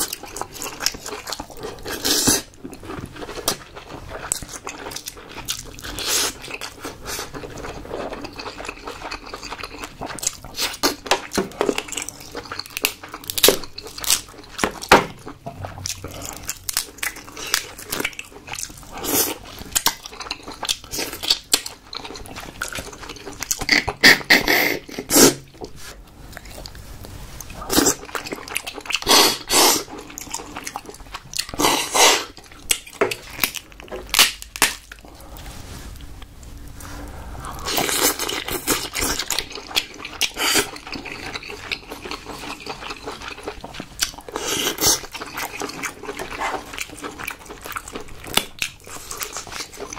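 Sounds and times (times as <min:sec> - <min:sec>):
wet chewing and lip-smacking: 0:00.0 - 0:26.8, 0:27.4 - 0:35.0, 0:36.9 - 0:49.9.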